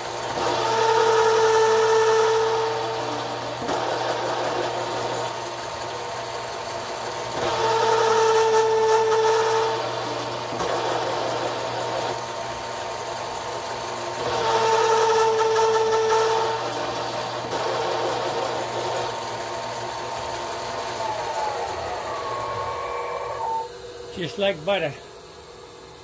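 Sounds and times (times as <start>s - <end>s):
milling machine hum and whine: 0.0s - 26.0s.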